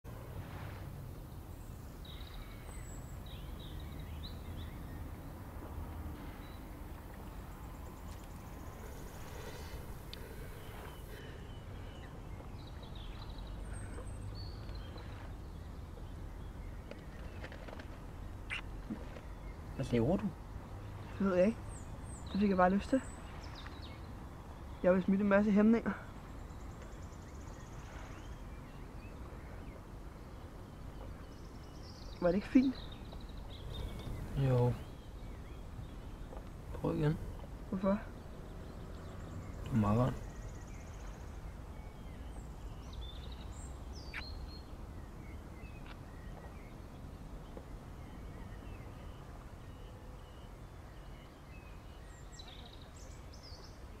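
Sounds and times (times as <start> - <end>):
faint bird chirps: 6.1 - 20.4, 21.0 - 54.0.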